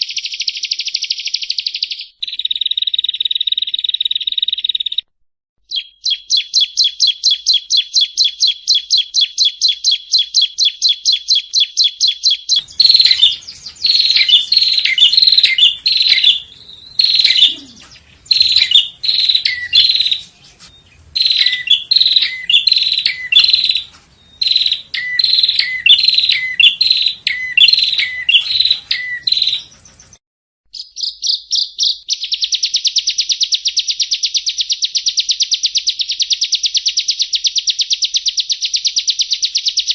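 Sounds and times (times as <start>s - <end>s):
bird trilling high chirps: 0.0s - 39.9s.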